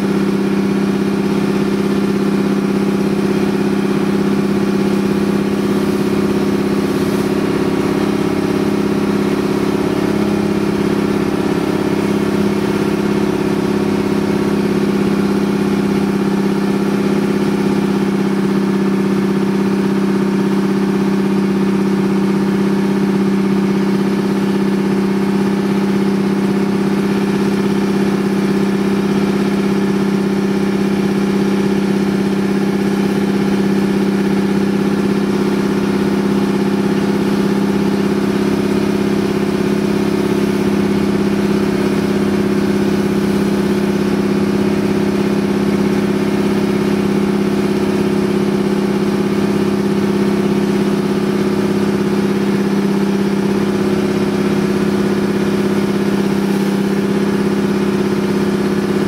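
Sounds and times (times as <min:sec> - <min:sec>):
boat engine running: 0:00.0 - 0:59.0
hiss of water and spray: 0:02.8 - 0:19.6, 0:23.7 - 0:59.0.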